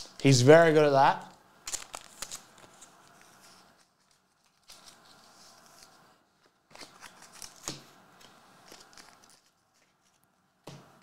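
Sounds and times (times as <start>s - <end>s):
trading cards rustling and clicking: 1.6s - 10.9s.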